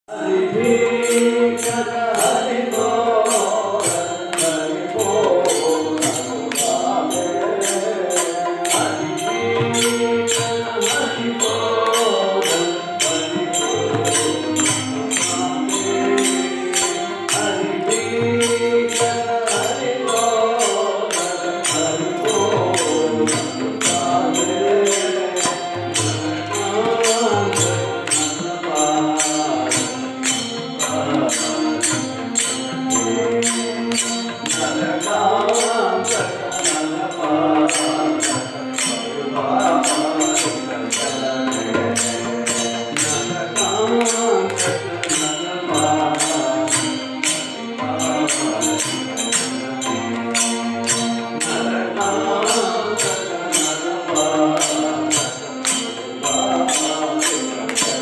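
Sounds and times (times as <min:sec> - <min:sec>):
group of men singing: 0:00.0 - 0:58.0
metallic percussion beat: 0:00.1 - 0:58.0.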